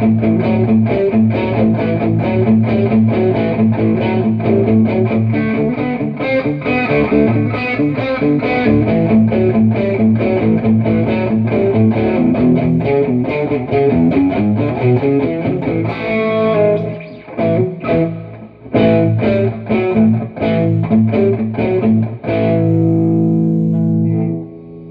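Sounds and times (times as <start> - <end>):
distorted electric guitar picking: 0.0 - 24.9.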